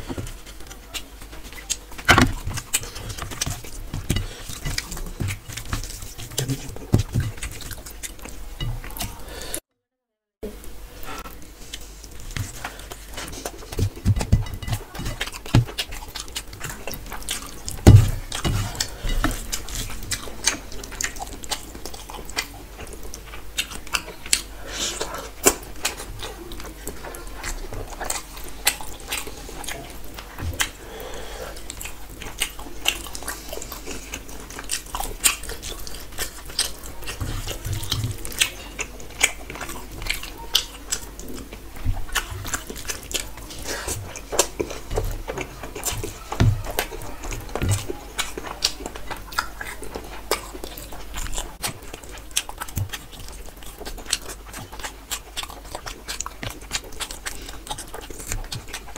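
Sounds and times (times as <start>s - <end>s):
wet squishing of food by hand: 0.0s - 9.6s, 11.0s - 58.9s.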